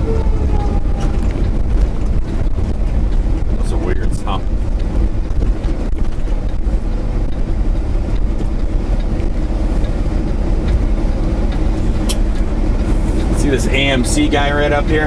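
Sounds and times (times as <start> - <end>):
road noise: 0.0 - 15.0
truck diesel engine rumble: 0.0 - 15.0.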